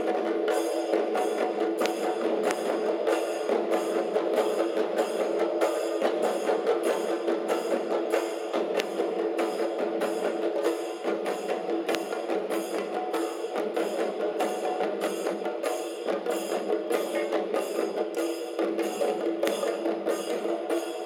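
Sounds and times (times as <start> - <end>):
drums beaten with sticks: 0.0 - 21.0.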